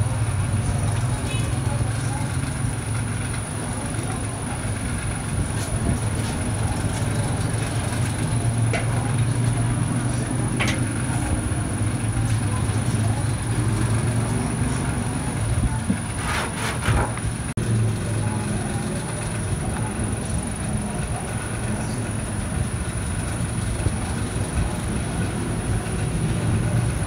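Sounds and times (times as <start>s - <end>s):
low mechanical drone: 0.0s - 27.0s.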